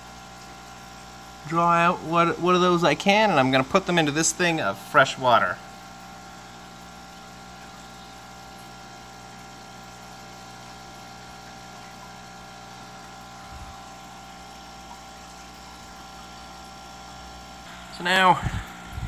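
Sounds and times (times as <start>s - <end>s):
air pump humming: 0.0s - 19.0s.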